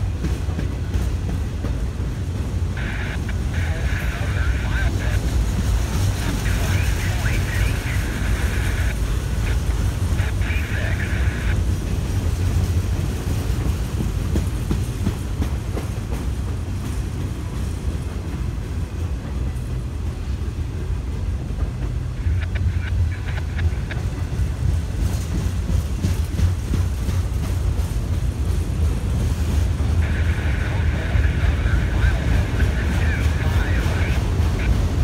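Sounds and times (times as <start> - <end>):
steel wheels rumbling on rail: 0.0 - 35.0.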